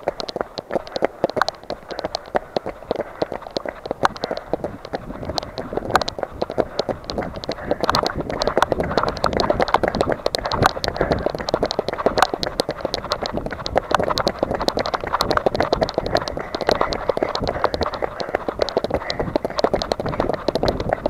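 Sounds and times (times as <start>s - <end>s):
running footsteps on wet pavement: 0.0s - 21.0s
camera knocking and rubbing: 0.2s - 21.0s.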